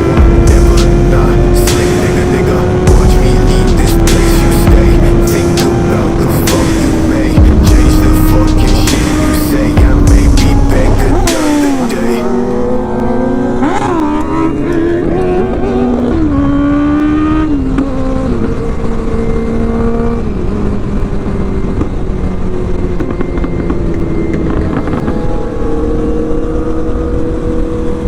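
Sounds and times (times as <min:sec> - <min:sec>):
motorcycle engine shifting gears: 0:00.0 - 0:28.0.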